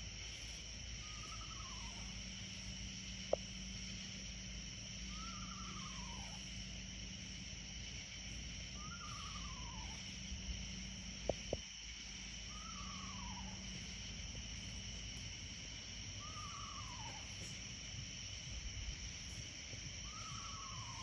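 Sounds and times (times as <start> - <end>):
high insect buzz: 0.0 - 21.0
quavering night animal call: 0.0 - 21.0.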